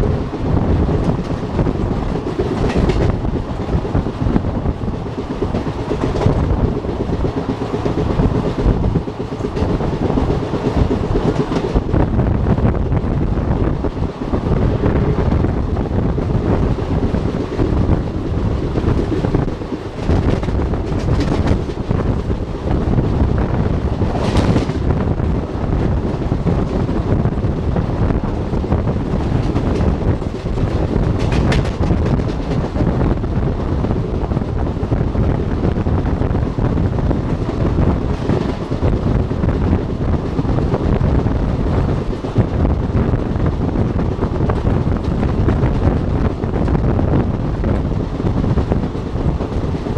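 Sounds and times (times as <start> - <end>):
moving train running noise: 0.0 - 49.9
sharp train rattles: 0.0 - 49.9
wind buffeting microphone: 0.0 - 49.9.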